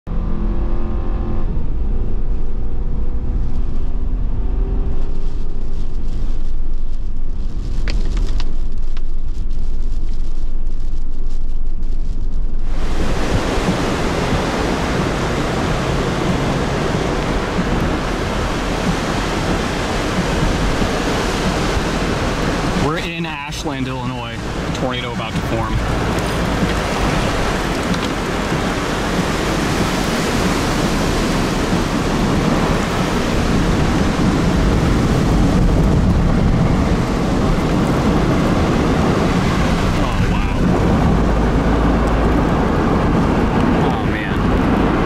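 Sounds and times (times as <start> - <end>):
car road and engine rumble: 0.0 - 45.0
strong wind rushing: 1.3 - 45.0.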